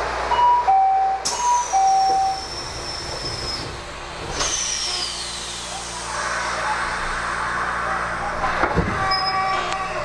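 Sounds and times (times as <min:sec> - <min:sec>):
train car rumble and hiss: 0:00.0 - 0:10.0.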